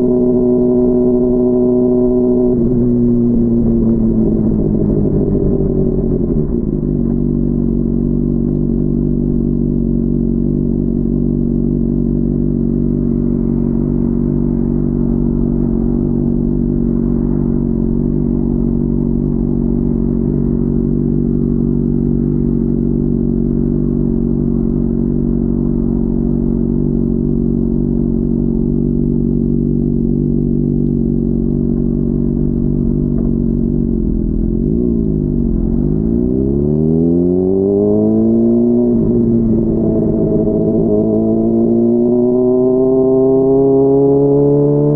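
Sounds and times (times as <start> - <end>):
muffled motorcycle engine cruising: 0.0 - 44.9.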